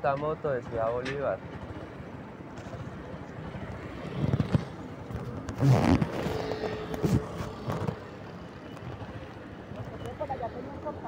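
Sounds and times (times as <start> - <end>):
motorcycle road noise: 1.7 - 11.0.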